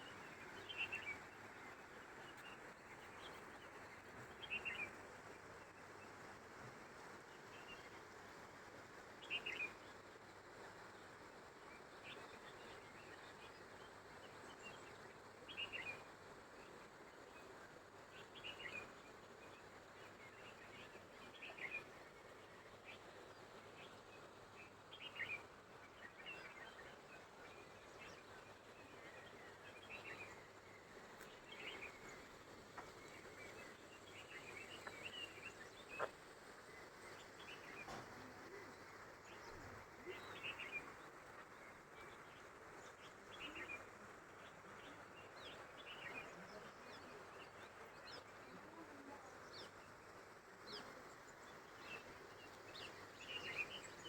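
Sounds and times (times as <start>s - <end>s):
low steady hiss: 0.0s - 54.0s.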